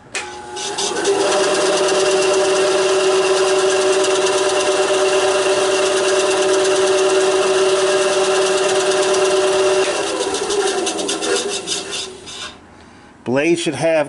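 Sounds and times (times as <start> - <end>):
band saw motor humming: 0.5 - 12.6
band saw winding down: 0.5 - 12.6.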